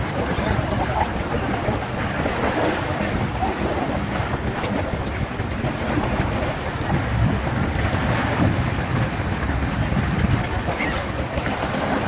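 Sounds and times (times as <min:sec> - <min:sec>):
choppy sea water: 0:00.0 - 0:12.0
wind blowing across microphone: 0:00.0 - 0:12.0.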